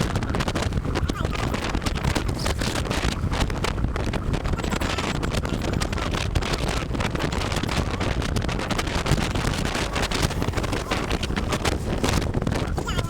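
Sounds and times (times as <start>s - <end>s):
low rumble: 0.0s - 13.0s
wind buffeting on microphone: 0.0s - 13.0s.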